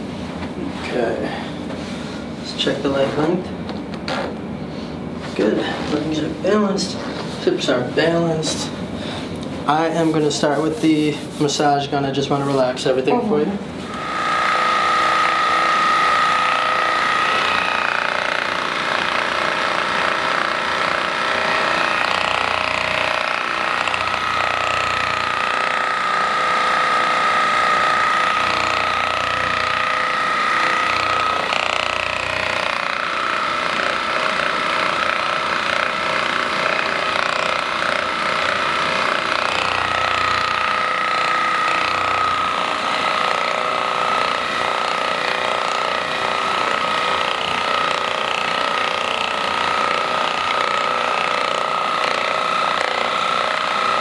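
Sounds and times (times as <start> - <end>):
massage gun whining and hammering: 0.0 - 54.0.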